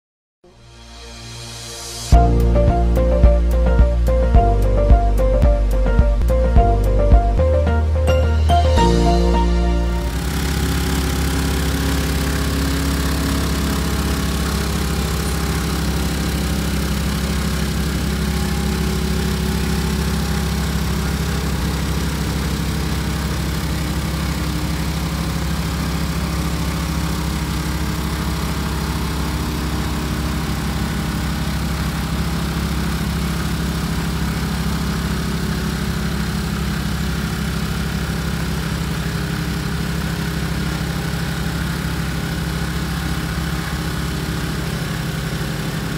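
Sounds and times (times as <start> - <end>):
truck wash machine engine drone: 0.7 - 45.9.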